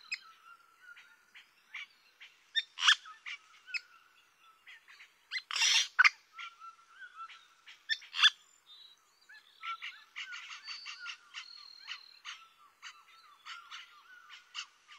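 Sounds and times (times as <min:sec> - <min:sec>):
frogs and birds chirping: 0:00.0 - 0:14.9.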